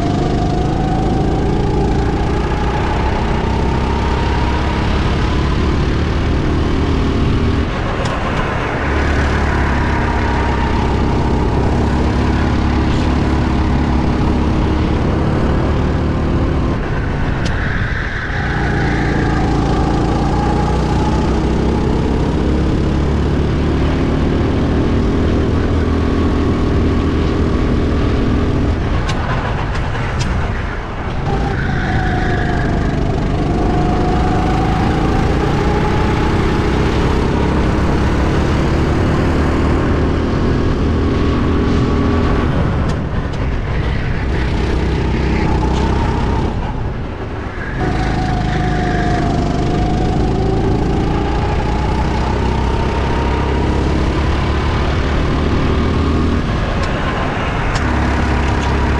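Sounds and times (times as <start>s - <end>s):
go-kart engine at full speed: 0.0s - 58.9s.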